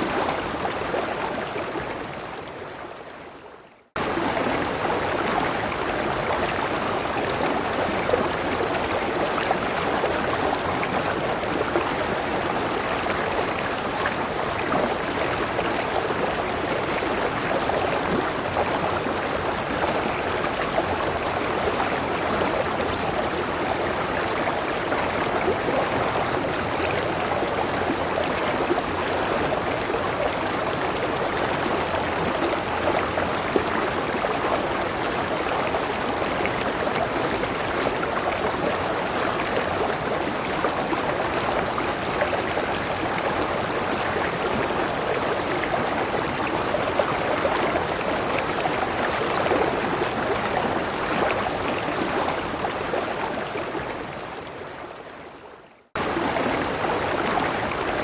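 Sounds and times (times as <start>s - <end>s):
river water rushing and gurgling: 0.0s - 58.0s.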